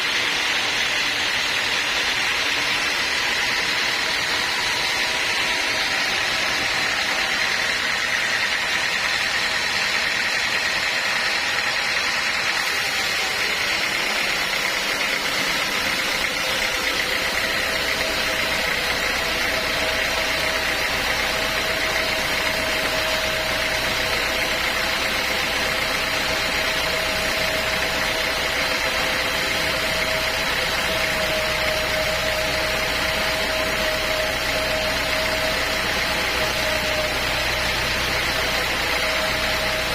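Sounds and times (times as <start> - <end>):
sawmill machinery hiss and whine: 0.0 - 39.9.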